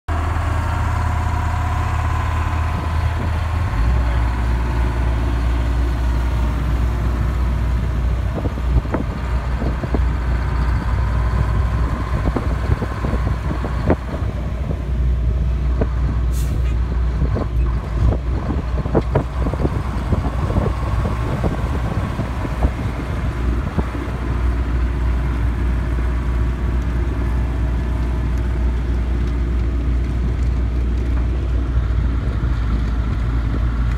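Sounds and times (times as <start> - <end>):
diesel engine drone: 0.0 - 33.9.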